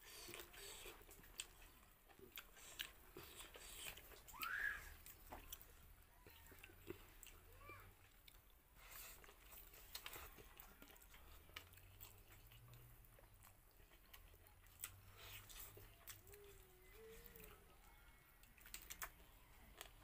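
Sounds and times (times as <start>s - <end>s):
close-up chewing: 0.0s - 20.0s.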